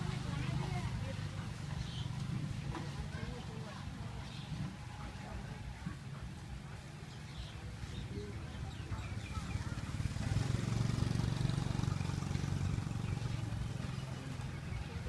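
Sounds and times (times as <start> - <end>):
faint voices: 0.0 - 15.0
vehicle engine running: 0.0 - 15.0.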